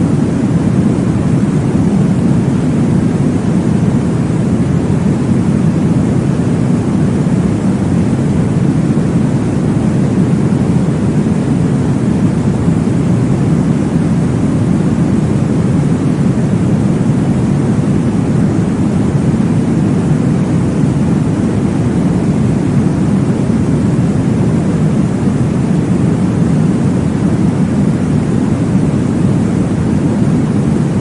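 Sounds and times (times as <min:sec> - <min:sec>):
deep white noise rushing: 0:00.0 - 0:31.0.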